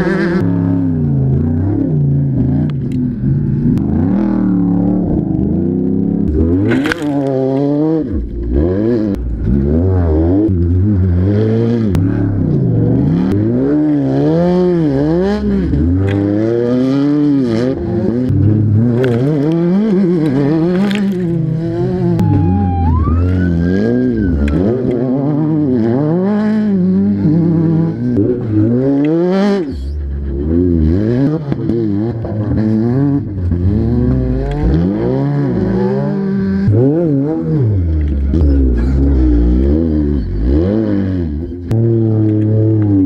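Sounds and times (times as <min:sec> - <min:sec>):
race vehicle engines revving: 0:00.0 - 0:43.0.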